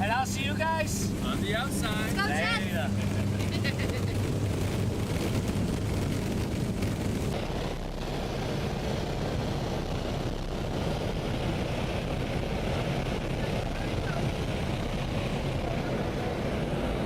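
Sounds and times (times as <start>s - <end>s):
propeller engine drone: 0.0s - 17.0s
wind rush: 0.0s - 17.0s.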